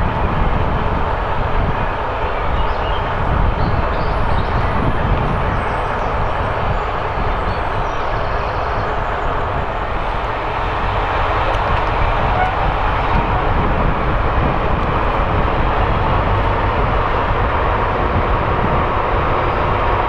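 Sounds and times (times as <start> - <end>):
diesel train engine rumble: 0.0 - 20.0
train coaches running noise: 0.0 - 20.0.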